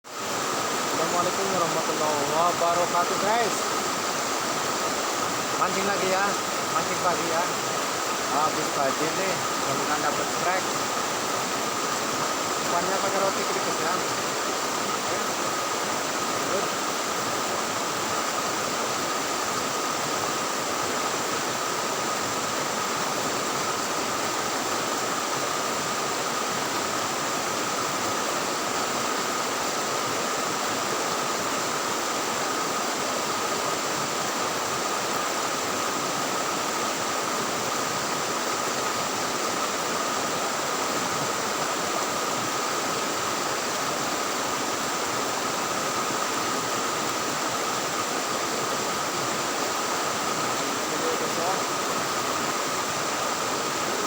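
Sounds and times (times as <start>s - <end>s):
river rushing: 0.1s - 54.0s.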